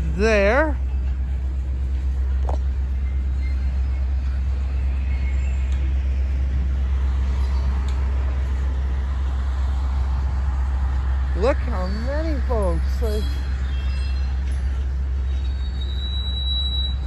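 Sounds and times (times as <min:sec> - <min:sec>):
freight train rumbling past: 0:00.0 - 0:15.9.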